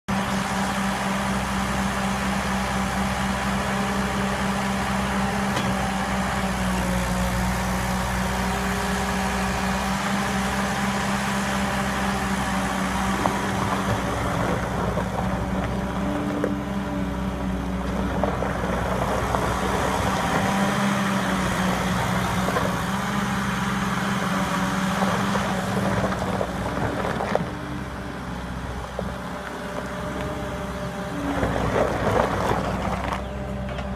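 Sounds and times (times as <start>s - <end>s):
loader engine running: 0.1s - 33.9s.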